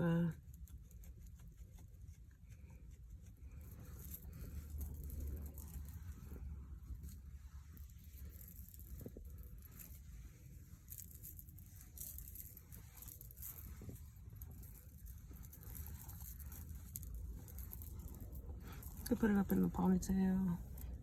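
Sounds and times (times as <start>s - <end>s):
low steady rumble: 0.0s - 21.0s
rustling and handling noises: 0.0s - 21.0s.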